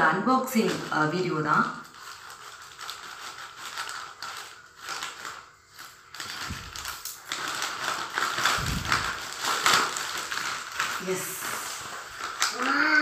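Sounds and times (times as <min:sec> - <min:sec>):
plastic crinkling: 0:00.4 - 0:13.0.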